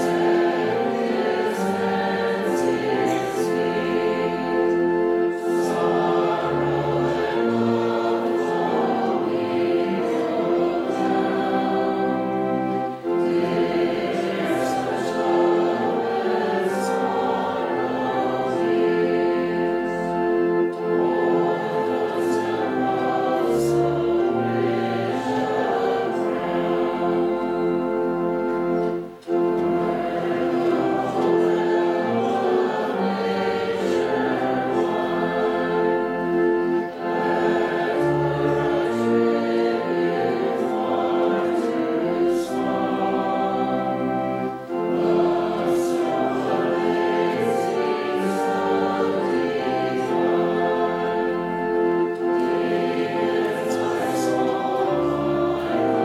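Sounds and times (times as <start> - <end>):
congregation singing a hymn: 0.0 - 56.0
organ chords: 0.0 - 56.0.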